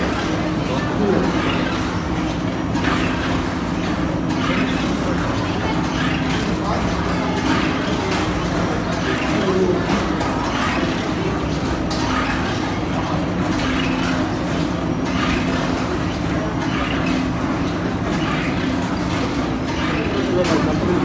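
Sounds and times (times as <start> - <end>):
factory machinery humming: 0.0 - 21.0.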